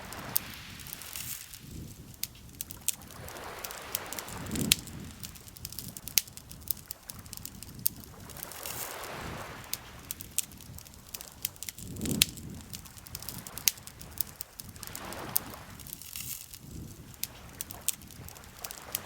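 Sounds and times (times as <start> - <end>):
lake water lapping: 0.0 - 16.1, 17.0 - 19.0
campfire crackling and popping: 0.0 - 19.0.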